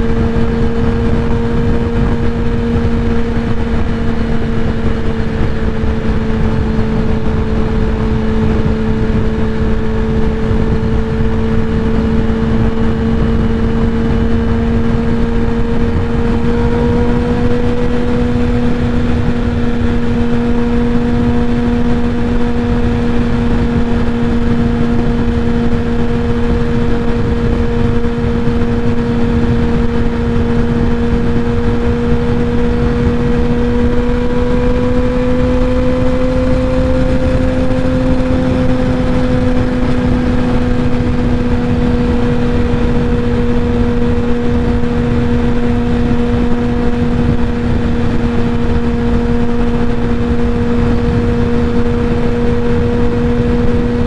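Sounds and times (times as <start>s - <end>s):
motorcycle engine drone: 0.0s - 54.0s
wind rush: 0.0s - 54.0s.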